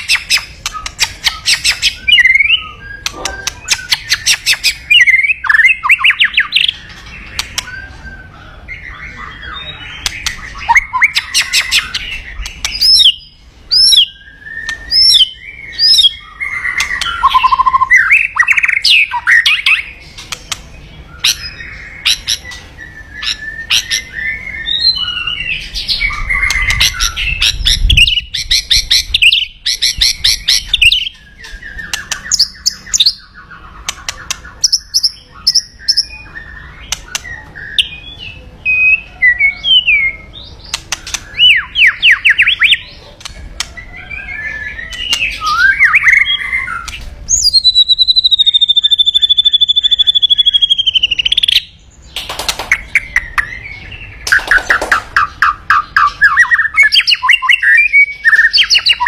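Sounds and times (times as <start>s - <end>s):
bird singing whistled phrases: 0.0s - 20.0s, 21.1s - 43.0s, 43.8s - 51.8s, 52.7s - 59.0s.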